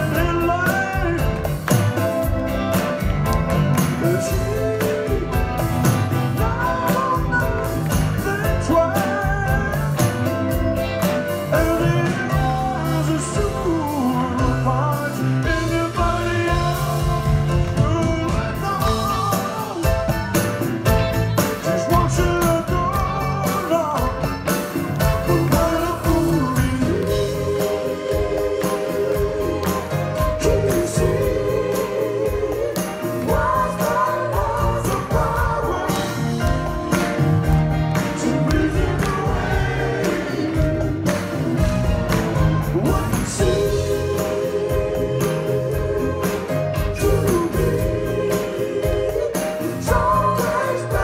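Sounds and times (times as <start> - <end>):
drums steady beat: 0.0 - 51.0
grand piano: 0.0 - 51.0
live band playing: 0.0 - 51.0.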